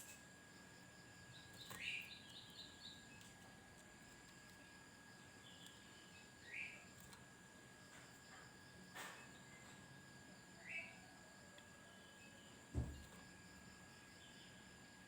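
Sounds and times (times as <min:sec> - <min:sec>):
insect-like high whine: 0:00.0 - 0:15.0.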